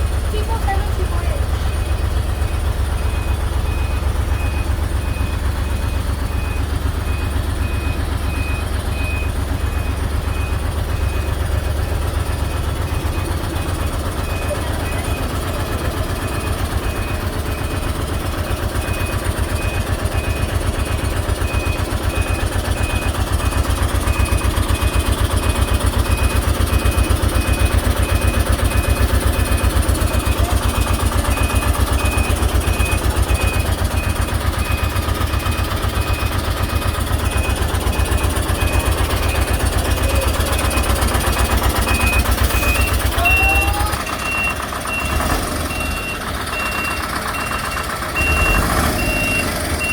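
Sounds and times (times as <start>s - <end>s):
diesel engine throbbing: 0.0s - 49.9s
reversing alarm beeps: 1.4s - 49.9s.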